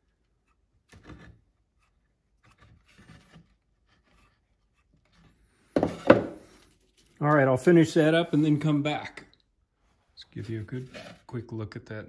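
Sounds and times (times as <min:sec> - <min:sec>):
scraping and rubbing: 0:00.0 - 0:08.7, 0:10.2 - 0:11.5.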